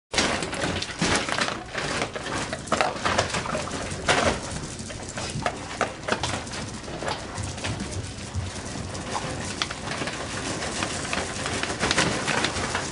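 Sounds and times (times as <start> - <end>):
kibble rattling in plastic bin: 0.1 - 12.9
dogs crunching kibble: 0.2 - 12.9.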